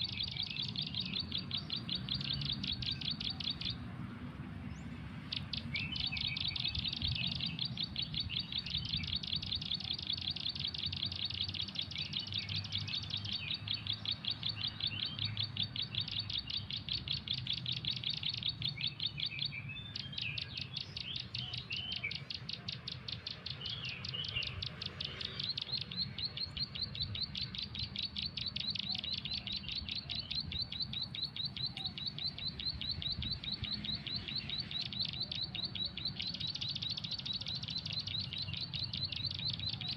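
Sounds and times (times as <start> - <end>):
recorded bird chirps from phone: 0.0 - 3.9, 4.7 - 39.9.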